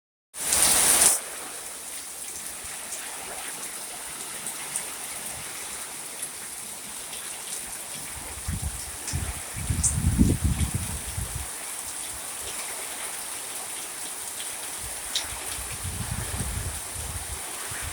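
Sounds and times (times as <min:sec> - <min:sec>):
steady rain falling: 0:00.4 - 0:17.9.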